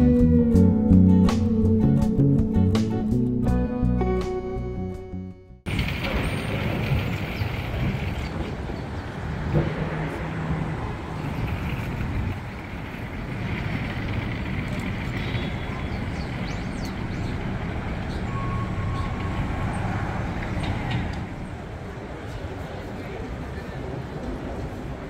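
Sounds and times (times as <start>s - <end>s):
city ambience: 0.0s - 25.0s
street traffic: 0.0s - 25.0s.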